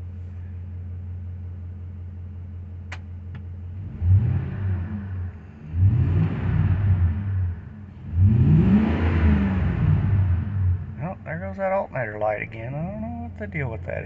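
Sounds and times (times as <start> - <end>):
engine idling and revving: 0.0 - 14.0.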